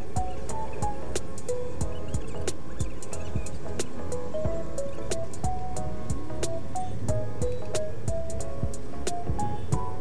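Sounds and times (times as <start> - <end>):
melody of short notes: 0.0 - 10.0.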